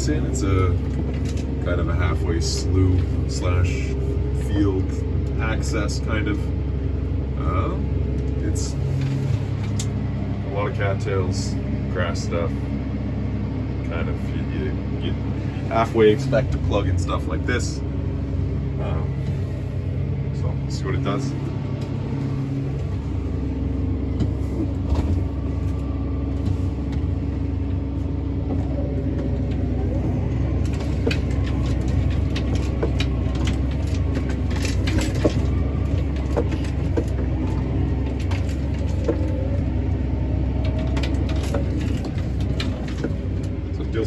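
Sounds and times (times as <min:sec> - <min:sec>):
sharp clicks and rattles: 0:00.0 - 0:06.5, 0:08.0 - 0:11.2, 0:15.7 - 0:44.0
tractor engine under load: 0:00.0 - 0:44.0.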